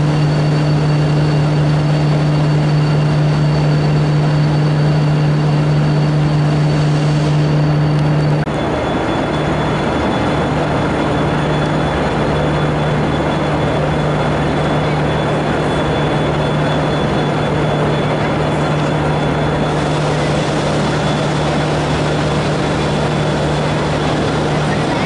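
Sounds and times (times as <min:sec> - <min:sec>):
diesel locomotive engine drone: 0:00.0 - 0:25.0
faint high whine: 0:00.0 - 0:25.0.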